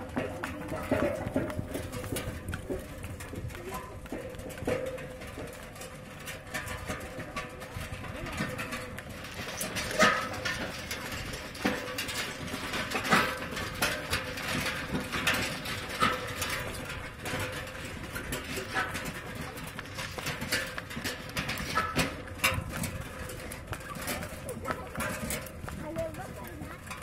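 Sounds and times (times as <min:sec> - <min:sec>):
hooves clopping on road: 0:00.0 - 0:27.0
wooden cart wheels knocking: 0:00.0 - 0:27.0.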